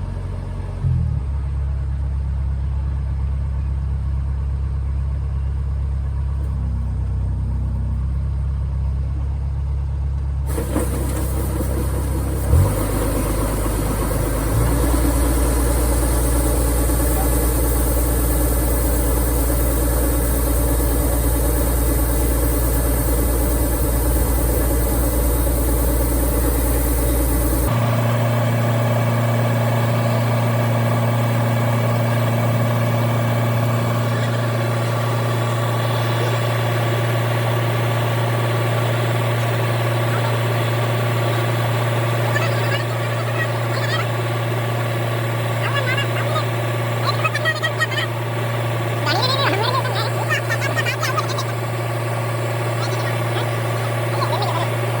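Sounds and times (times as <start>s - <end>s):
harvester engine running: 0.0s - 55.0s.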